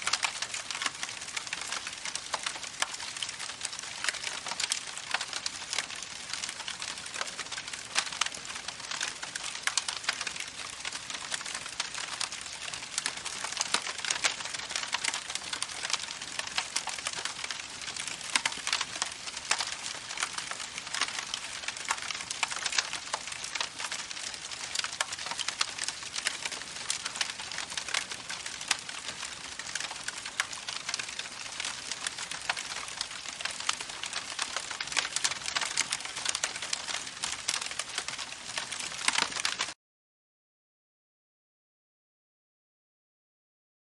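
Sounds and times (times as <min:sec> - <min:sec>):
campfire crackling: 0:00.0 - 0:39.8.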